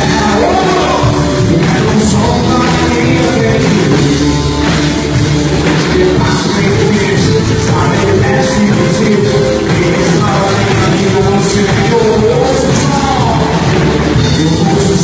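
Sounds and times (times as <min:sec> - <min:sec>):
band playing rock music: 0:00.0 - 0:15.0
drum kit: 0:00.0 - 0:15.0.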